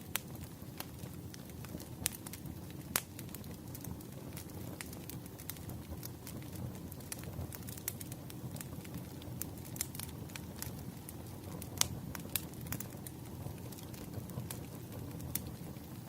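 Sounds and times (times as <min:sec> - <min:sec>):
fire crackling and popping: 0:00.0 - 0:16.0
low rumble of burning: 0:00.0 - 0:16.0.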